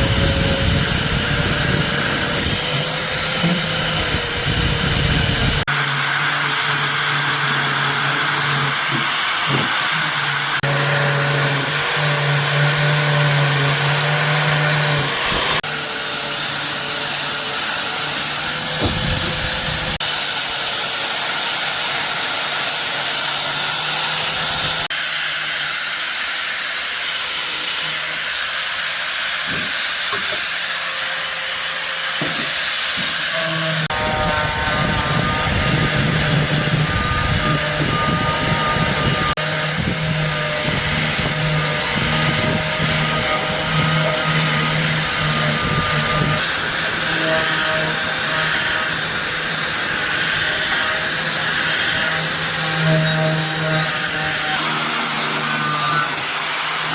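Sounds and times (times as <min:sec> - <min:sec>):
power tool running with hiss: 0:00.0 - 0:56.9.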